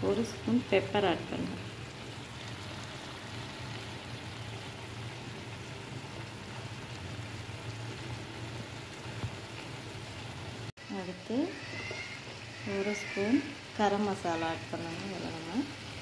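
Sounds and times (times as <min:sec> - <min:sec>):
curry sizzling in a pan: 0:00.0 - 0:16.0.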